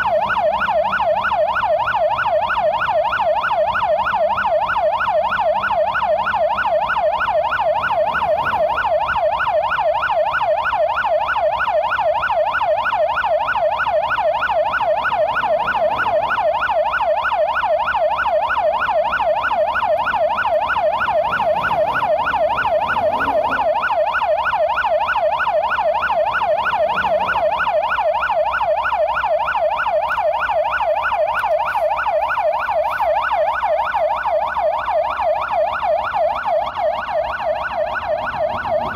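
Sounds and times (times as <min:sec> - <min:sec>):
emergency siren yelping: 0:00.0 - 0:38.9.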